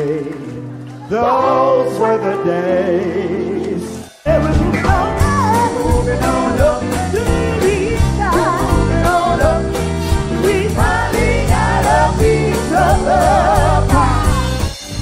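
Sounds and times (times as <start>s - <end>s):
live soul band playing: 0.4s - 15.0s
people singing: 1.1s - 3.4s, 4.3s - 15.0s.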